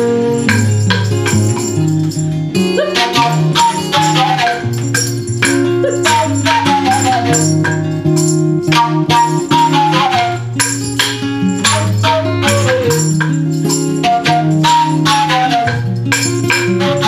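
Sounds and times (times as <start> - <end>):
acoustic guitar: 0.0 - 17.0
wooden flute melody: 0.0 - 17.0.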